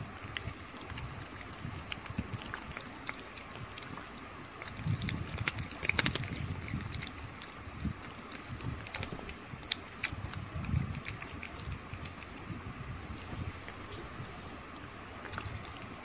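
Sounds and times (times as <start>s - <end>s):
kitten chewing and licking: 0.0s - 16.0s.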